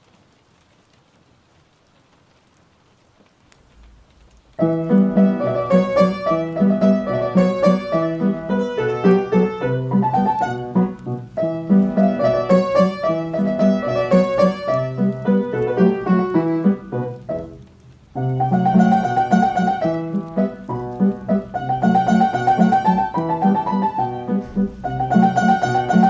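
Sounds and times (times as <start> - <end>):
piano playing a waltz: 4.6 - 26.0.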